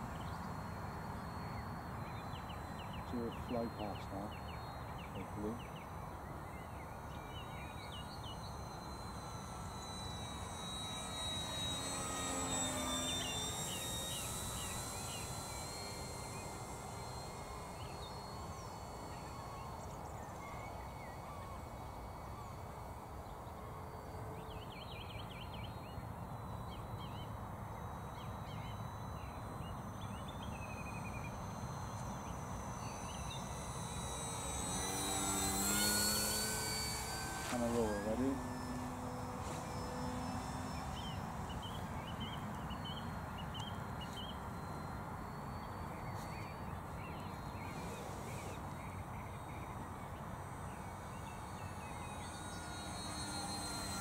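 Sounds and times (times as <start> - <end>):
model plane motor whining: 0.0 - 54.0.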